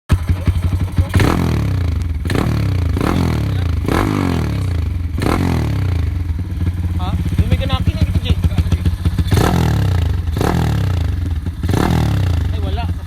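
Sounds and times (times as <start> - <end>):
motorcycle engine revving: 0.1 - 13.0.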